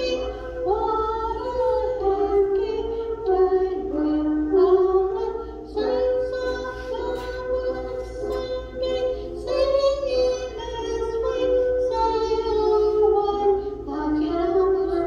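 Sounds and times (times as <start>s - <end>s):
high voice singing slow song: 0.0s - 15.0s.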